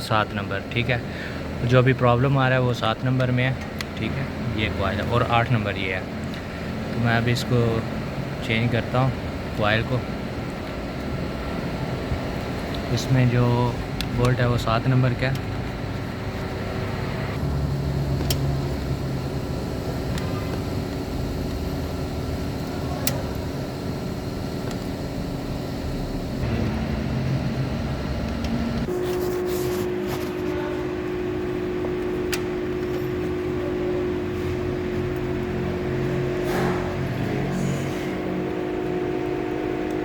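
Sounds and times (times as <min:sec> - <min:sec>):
vehicle engine running: 0:00.6 - 0:40.0.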